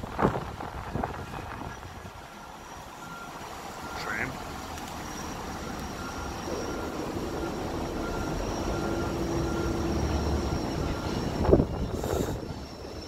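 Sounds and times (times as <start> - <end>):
tram humming: 0.0 - 13.0
distant street noise: 0.8 - 13.0.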